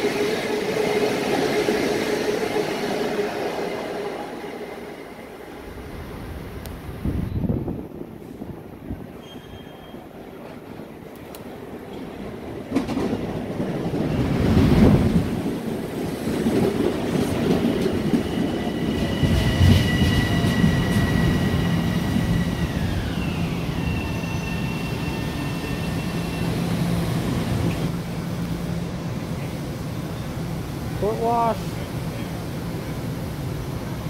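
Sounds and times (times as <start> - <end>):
train wheels rumbling on rails: 6.1 - 34.0.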